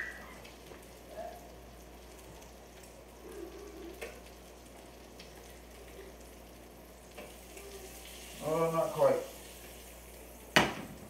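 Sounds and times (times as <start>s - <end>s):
pancake sizzling in frying pan: 0.0s - 11.0s.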